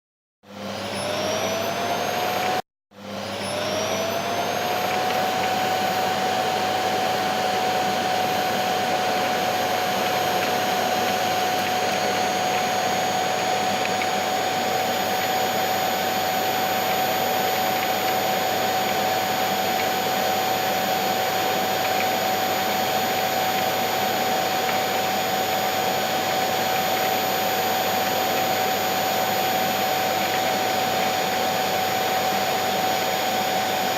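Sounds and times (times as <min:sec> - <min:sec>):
vacuum cleaner motor whine: 0:00.5 - 0:33.9.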